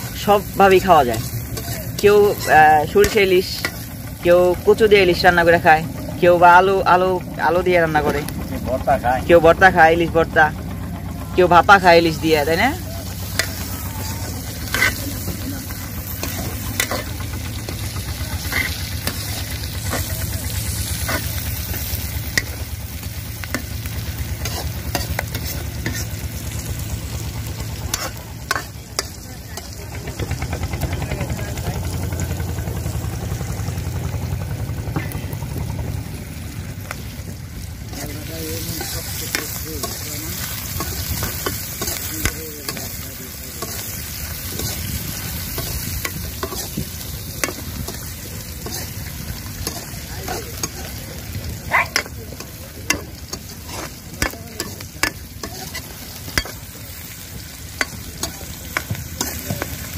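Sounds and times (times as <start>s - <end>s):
food frying and sizzling: 0.0s - 59.9s
steady low rumble: 0.0s - 59.9s.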